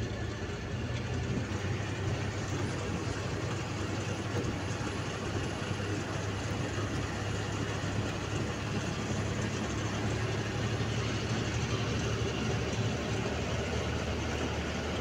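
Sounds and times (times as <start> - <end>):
bus engine running: 0.0 - 15.0
road noise: 0.0 - 15.0.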